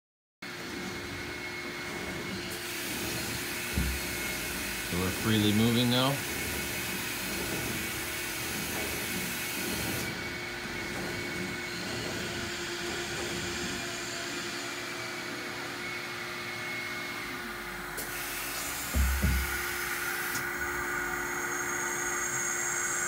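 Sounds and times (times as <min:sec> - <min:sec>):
grinder machine humming: 0:00.4 - 0:23.0.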